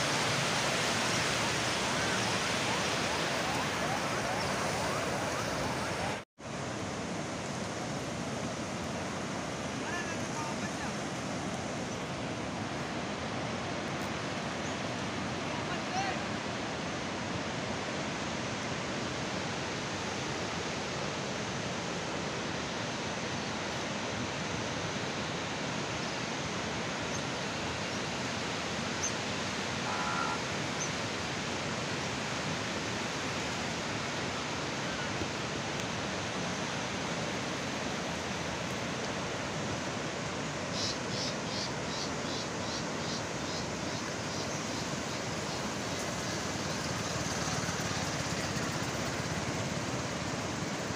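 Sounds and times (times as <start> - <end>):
river rushing: 0.0 - 50.9.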